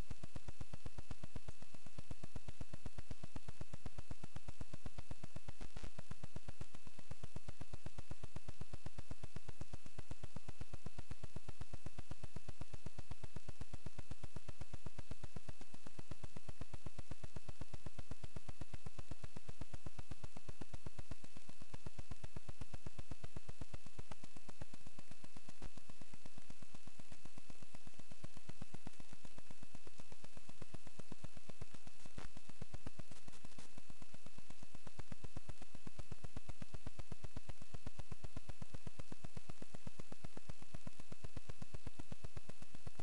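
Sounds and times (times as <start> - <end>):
pulsing electronic buzz: 0.0 - 43.0.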